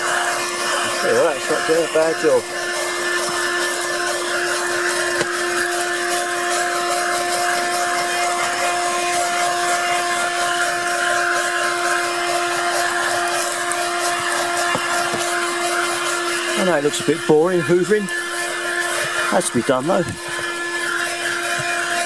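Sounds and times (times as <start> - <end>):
car vacuum cleaner humming: 0.0 - 22.0.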